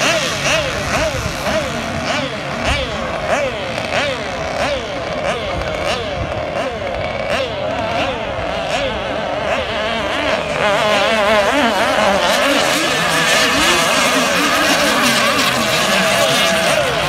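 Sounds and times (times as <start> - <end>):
model boat engines buzzing: 0.0 - 17.0.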